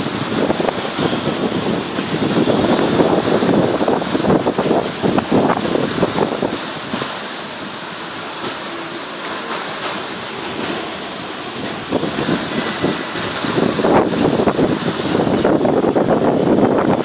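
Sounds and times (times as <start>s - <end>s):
wind buffeting microphone: 0.0s - 8.6s, 9.5s - 17.0s
water rushing in boat wake: 0.0s - 17.0s
waves breaking: 0.0s - 17.0s.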